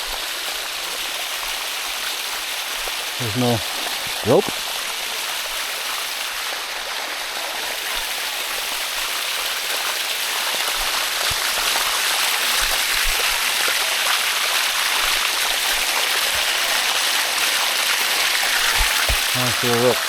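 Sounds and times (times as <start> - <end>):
water rushing over rock: 0.0 - 20.0.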